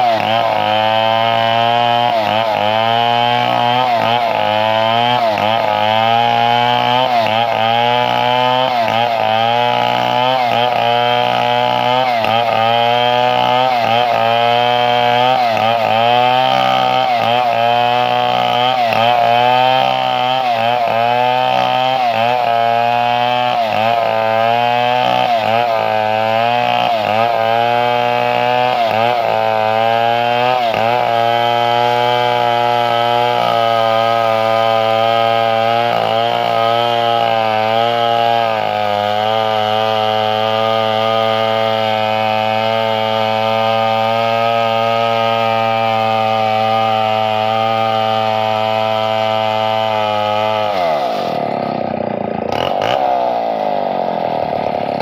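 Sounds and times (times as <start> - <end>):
chainsaw running at high throttle: 0.0 - 55.0.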